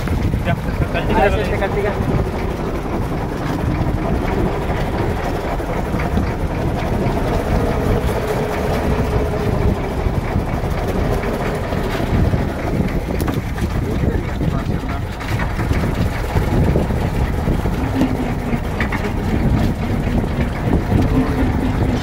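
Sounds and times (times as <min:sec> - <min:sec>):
boat engine low drone: 0:00.0 - 0:22.0.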